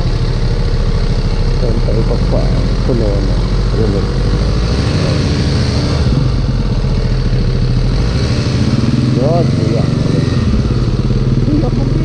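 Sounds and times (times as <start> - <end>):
motorcycle engine running at low speed: 0.0 - 12.0.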